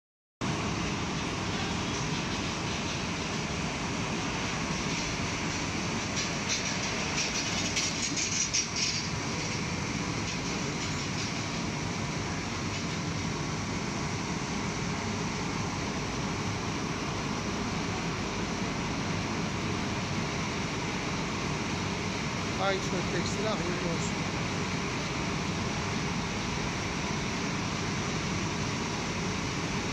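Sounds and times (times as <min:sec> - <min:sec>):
machine mechanical rumble and whir: 0:00.4 - 0:29.9.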